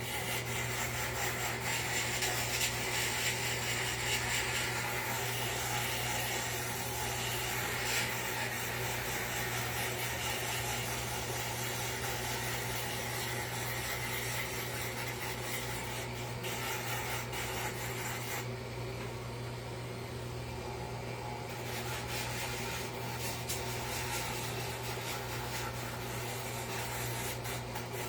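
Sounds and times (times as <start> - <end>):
abrasive sanding of wood: 0.0 - 18.5, 21.5 - 28.0
small power tool humming: 0.0 - 18.5, 21.4 - 28.0.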